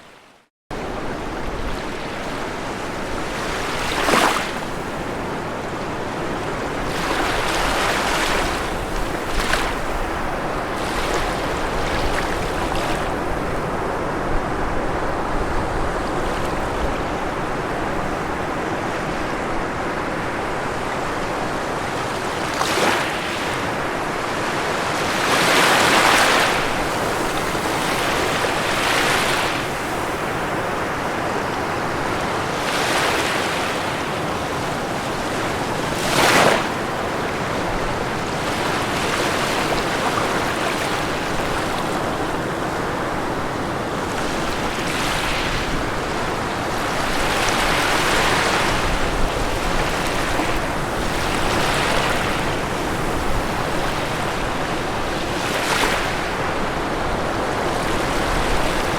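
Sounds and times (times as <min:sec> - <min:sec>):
ocean waves breaking: 0:00.1 - 0:58.9.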